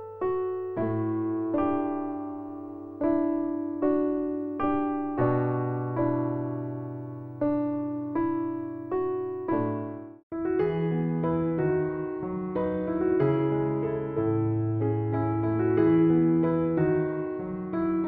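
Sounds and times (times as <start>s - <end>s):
slow piano notes: 0.0s - 18.0s.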